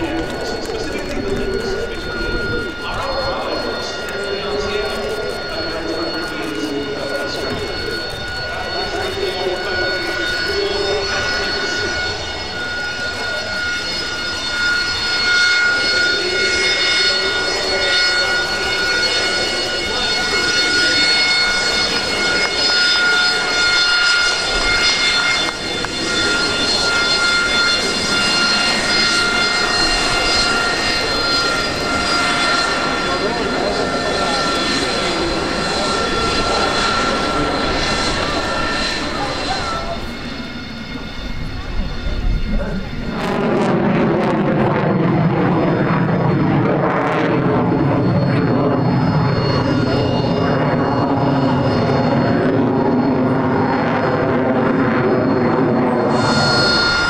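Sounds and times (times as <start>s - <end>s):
jet engine roar with high whine: 0.0s - 57.0s.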